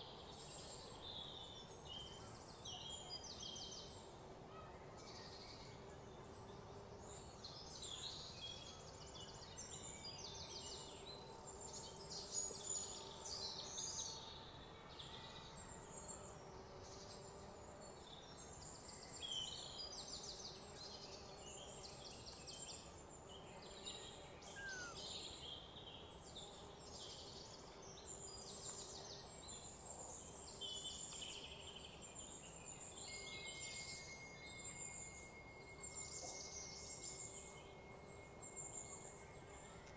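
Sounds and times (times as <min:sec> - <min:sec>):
insects and birds chirping: 0:00.0 - 0:39.9.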